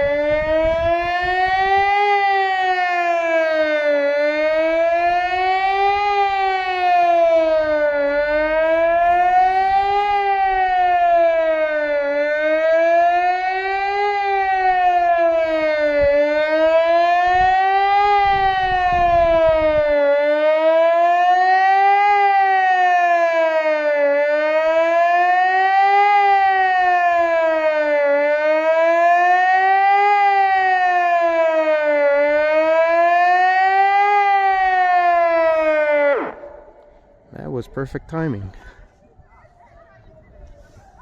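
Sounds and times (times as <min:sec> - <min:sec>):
siren wailing up and down: 0:00.0 - 0:37.5.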